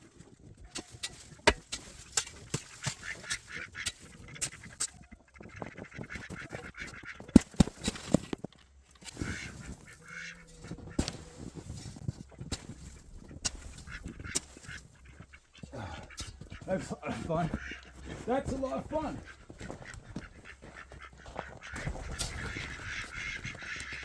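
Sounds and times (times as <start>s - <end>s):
ducks quacking: 0.1s - 8.2s, 9.0s - 24.0s.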